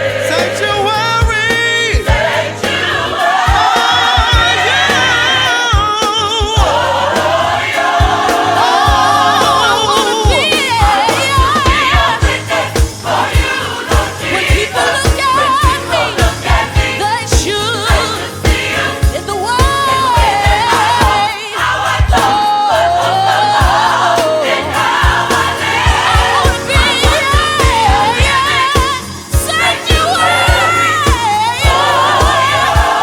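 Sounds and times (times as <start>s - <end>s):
band with low drum beat: 0.0s - 33.0s
voices singing with vibrato: 0.0s - 33.0s.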